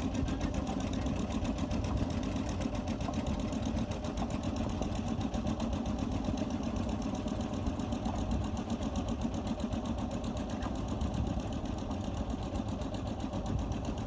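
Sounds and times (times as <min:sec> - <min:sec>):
boat engine chugging: 0:00.0 - 0:14.0.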